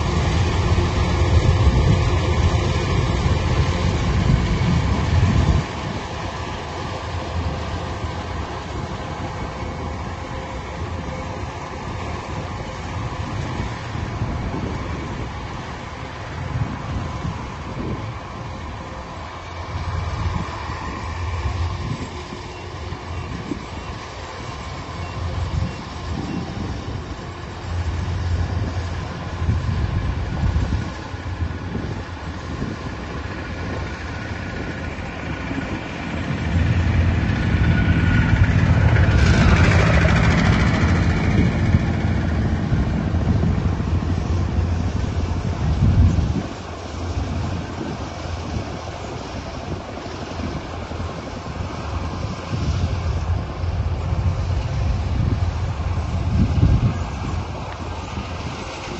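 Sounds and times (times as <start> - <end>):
heavy machinery engine rumbling: 0.0 - 58.9
rushing noise: 0.0 - 58.9.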